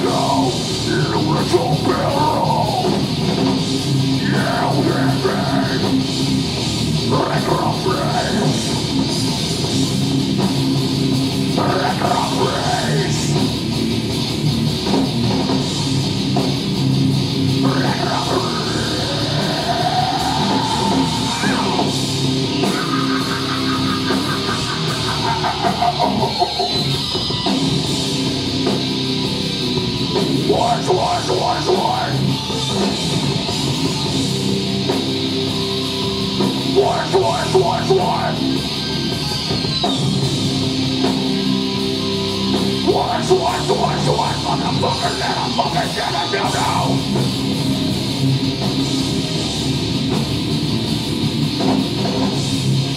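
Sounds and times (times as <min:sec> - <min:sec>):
distorted electric guitars: 0:00.0 - 0:52.9
heavy metal band playing live: 0:00.0 - 0:52.9.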